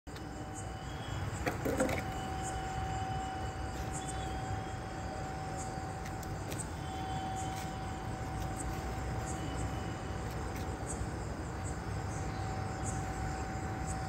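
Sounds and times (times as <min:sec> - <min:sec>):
mechanical hum: 0:00.1 - 0:14.0.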